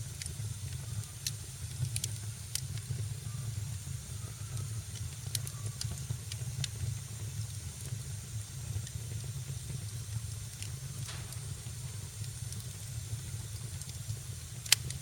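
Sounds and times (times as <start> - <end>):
fire crackles and pops: 0.0 - 15.0
fire rumbling and hissing: 0.0 - 15.0.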